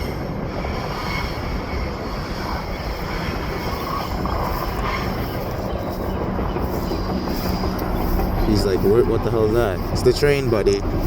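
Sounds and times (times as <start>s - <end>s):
train rumbling by: 0.0s - 11.0s.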